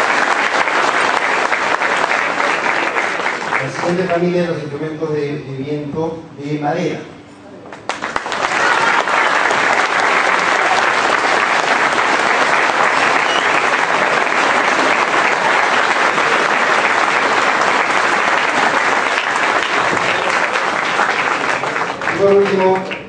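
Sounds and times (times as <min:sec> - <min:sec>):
audience applauding: 0:00.0 - 0:04.5, 0:07.8 - 0:23.0.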